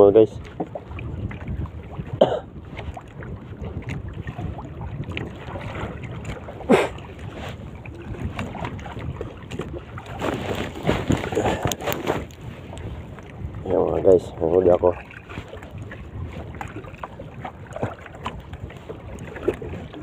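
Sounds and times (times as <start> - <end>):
water lapping at boat hull: 0.0 - 20.0
wind on microphone: 0.0 - 20.0.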